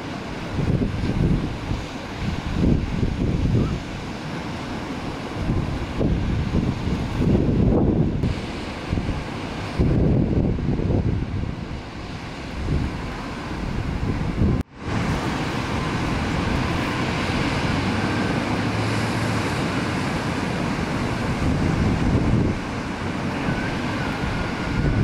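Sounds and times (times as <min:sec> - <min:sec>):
breaking surf: 0:00.0 - 0:25.0
wind buffeting microphone: 0:00.0 - 0:25.0.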